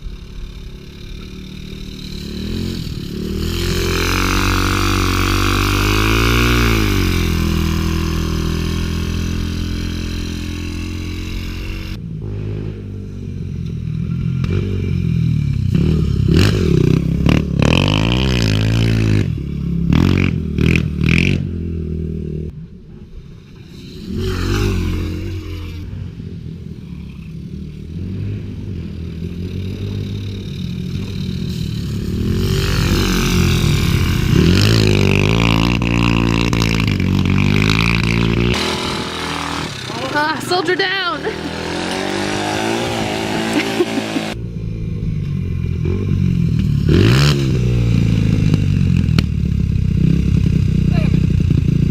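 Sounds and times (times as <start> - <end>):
pit bike engine running: 0.0 - 22.1, 24.2 - 51.9.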